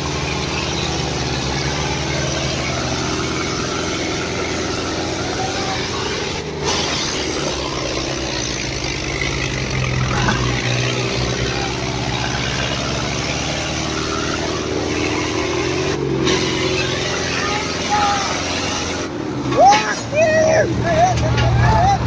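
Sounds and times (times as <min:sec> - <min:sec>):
diesel tractor engines running: 0:00.0 - 0:22.0.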